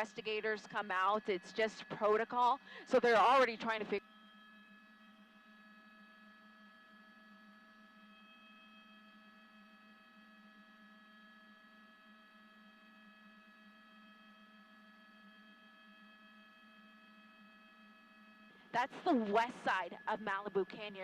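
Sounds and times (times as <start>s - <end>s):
faint electrical hum and whine: 0.0s - 21.0s.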